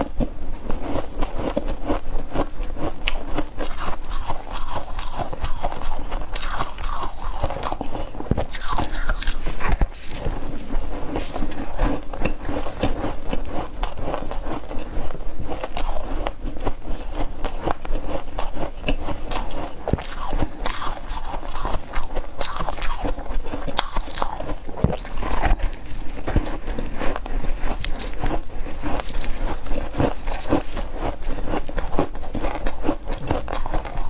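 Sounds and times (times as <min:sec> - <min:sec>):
chewing ice crunches: 0:00.0 - 0:34.0.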